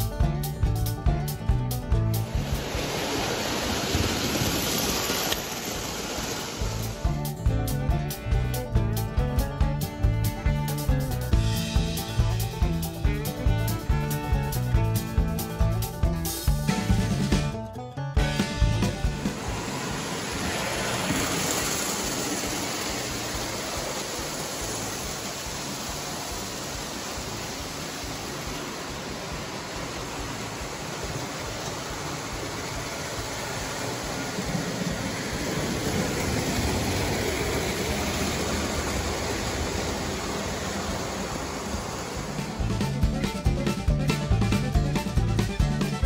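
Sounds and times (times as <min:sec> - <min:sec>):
metal wheels rolling on rails: 0:00.0 - 0:11.4, 0:18.4 - 0:45.2.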